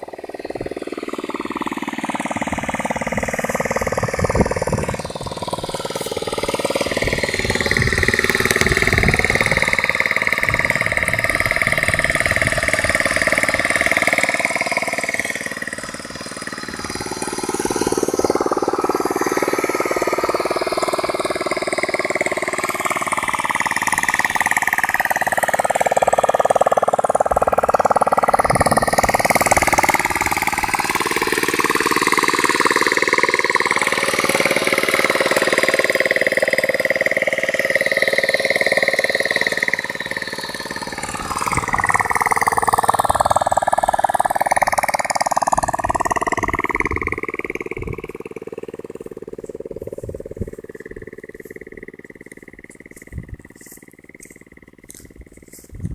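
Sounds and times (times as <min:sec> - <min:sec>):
motorcycle engine driving water pump: 0:00.0 - 0:55.9.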